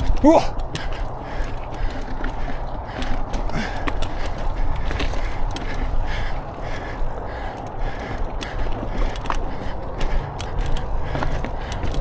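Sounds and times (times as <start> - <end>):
bike tyres rumbling on trail: 0.0 - 12.0
wheels knocking on rocks: 0.0 - 12.0.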